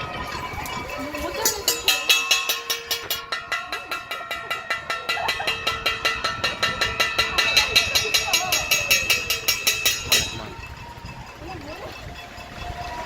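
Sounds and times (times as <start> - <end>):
metal banging with ringing tone: 0.1 - 13.0.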